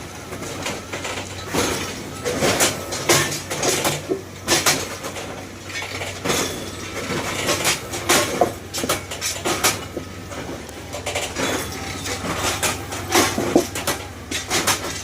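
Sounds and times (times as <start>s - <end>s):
metallic clanks and knocks: 0.2s - 15.0s.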